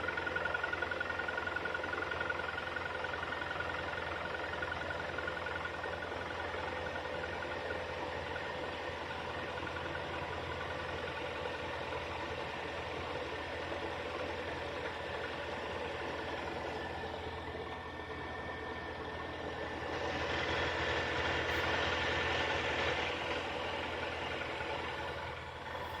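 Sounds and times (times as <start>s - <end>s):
car engine running with knock: 0.0s - 26.0s.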